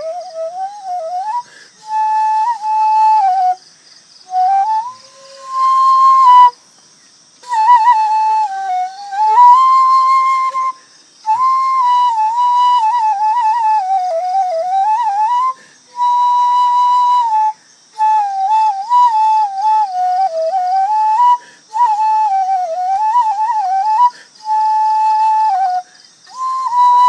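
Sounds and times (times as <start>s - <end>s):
bamboo flute melody: 0.0s - 3.6s, 4.3s - 6.6s, 7.4s - 27.0s.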